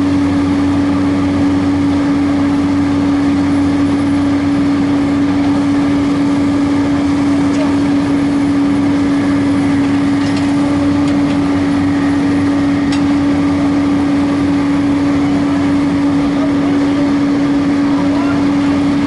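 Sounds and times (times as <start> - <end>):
heavy machinery engine drone: 0.0 - 19.0.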